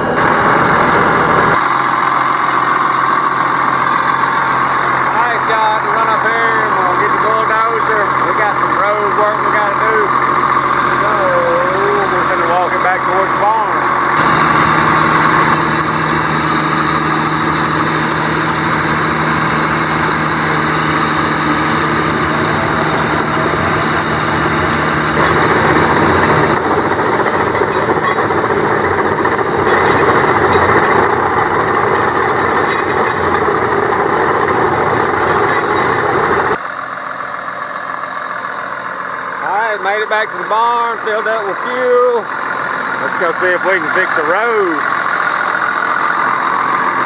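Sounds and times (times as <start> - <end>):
engine running: 0.0 - 47.0.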